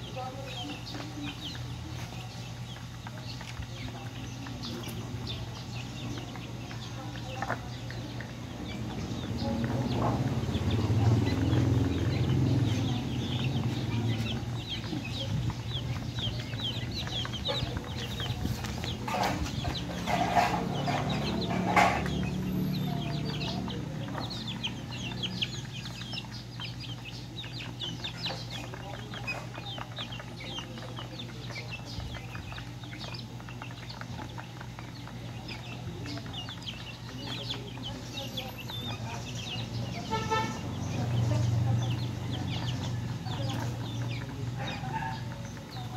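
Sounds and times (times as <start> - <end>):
chicks peeping and clucking: 0.0 - 45.9.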